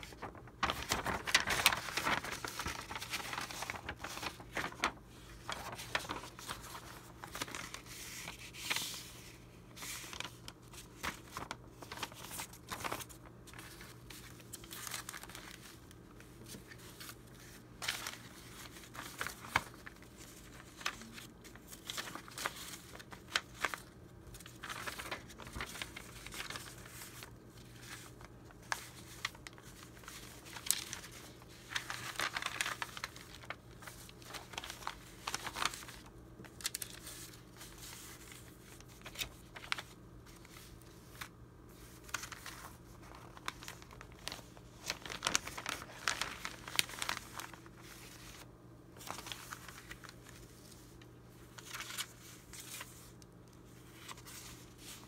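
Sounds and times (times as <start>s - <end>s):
paper rustling and crinkling: 0.0s - 55.0s.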